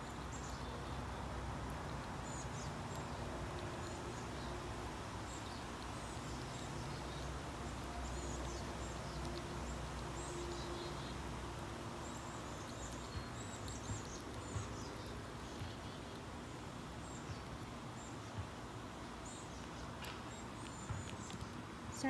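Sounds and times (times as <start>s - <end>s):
distant birds chirping: 0.0s - 22.0s.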